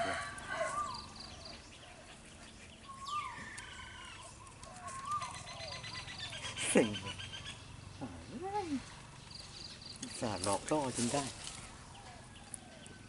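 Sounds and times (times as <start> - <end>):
birds whistling calls: 0.0 - 10.6.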